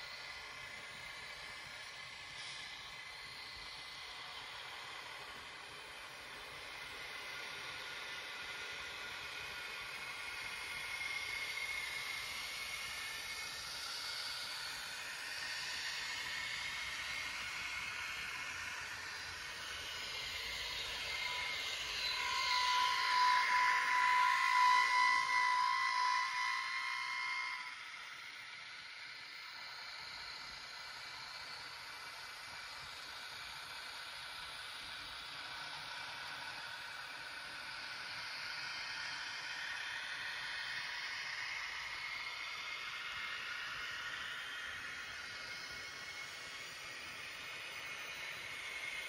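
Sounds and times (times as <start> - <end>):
model train motors whirring: 0.0 - 49.0.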